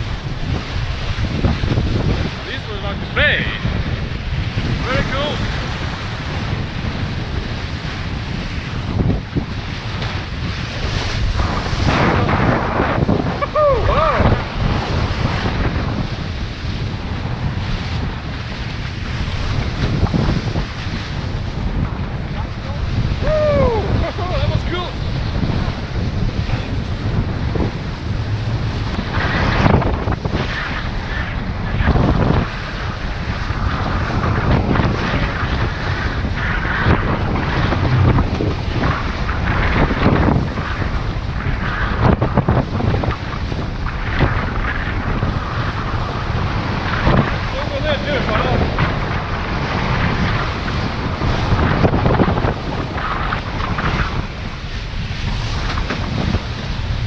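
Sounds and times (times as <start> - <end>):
water rushing along hulls: 0.0 - 57.0
wind buffeting microphone: 0.0 - 57.0.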